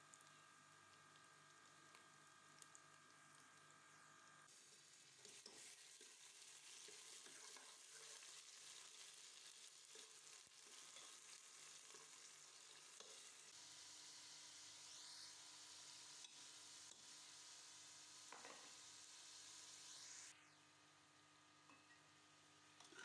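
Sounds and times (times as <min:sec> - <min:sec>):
onions sizzling in oil: 0:00.0 - 0:20.4, 0:21.2 - 0:23.0.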